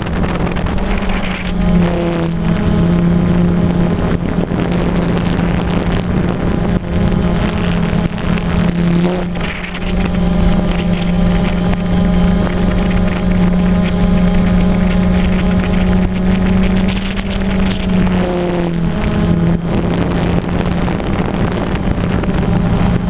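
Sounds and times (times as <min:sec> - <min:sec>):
drone propellers buzzing: 0:00.0 - 0:23.0
rush of air: 0:00.0 - 0:23.0.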